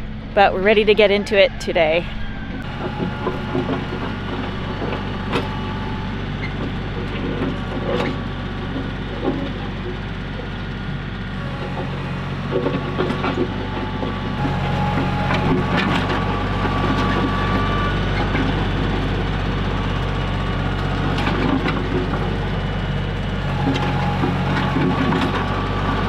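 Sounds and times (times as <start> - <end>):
tractor engine running: 0.0 - 26.0
soil crunching under blade: 2.6 - 26.0.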